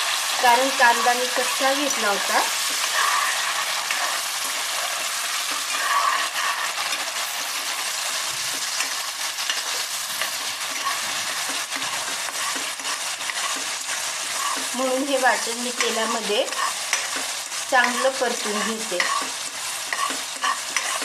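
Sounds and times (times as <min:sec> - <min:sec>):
paste sizzling in hot oil: 0:00.0 - 0:21.0
spatula stirring in pan: 0:00.0 - 0:21.0.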